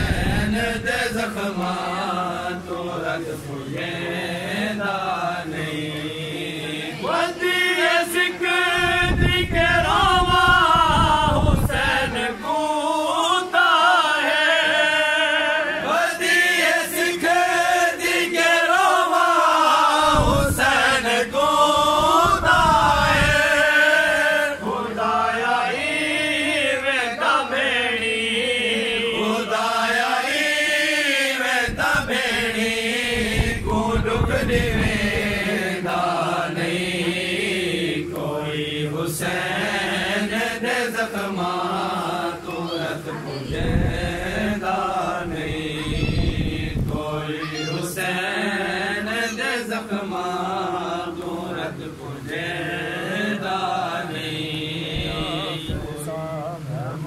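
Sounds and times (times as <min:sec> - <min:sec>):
men chanting a lament: 0:00.0 - 0:57.0.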